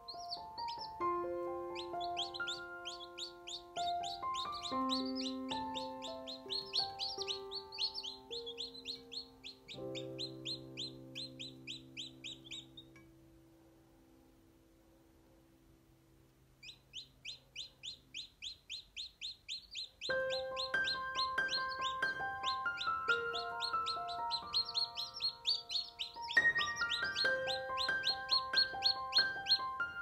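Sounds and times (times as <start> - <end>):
chicks peeping: 0.0 - 13.1, 16.6 - 30.0
background music with low notes: 0.0 - 17.7, 20.1 - 30.0.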